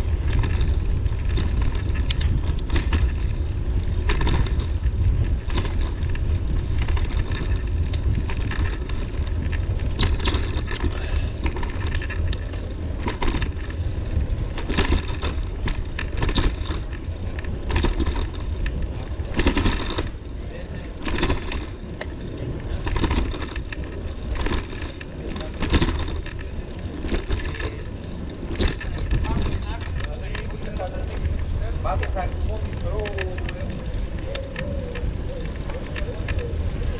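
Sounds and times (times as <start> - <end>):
wind buffeting microphone: 0.0 - 36.9
short rattling noises: 0.1 - 36.4.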